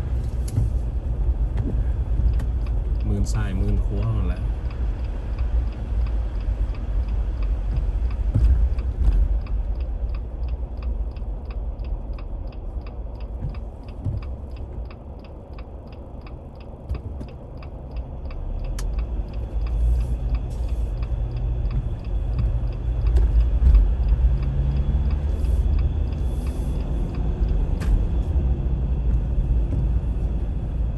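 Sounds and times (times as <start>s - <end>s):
road and tyre rumble in car: 0.0s - 30.9s
turn signal ticking: 0.0s - 30.9s.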